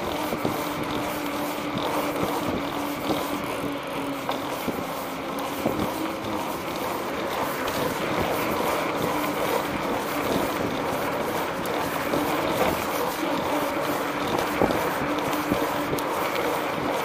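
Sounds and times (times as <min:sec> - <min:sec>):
bicycle tyre rolling on pavement: 0:00.0 - 0:17.0
wind buffeting microphone: 0:00.0 - 0:17.0.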